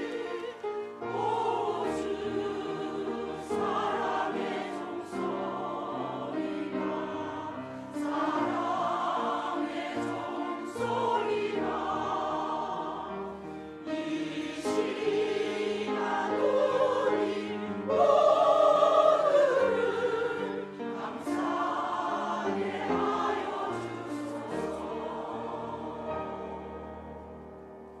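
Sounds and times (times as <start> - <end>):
choir singing sustained chords: 0.0 - 28.0.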